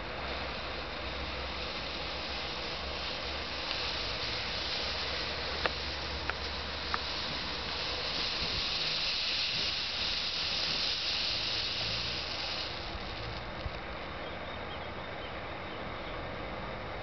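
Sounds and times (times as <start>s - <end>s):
smoke ball hissing: 0.0s - 17.0s.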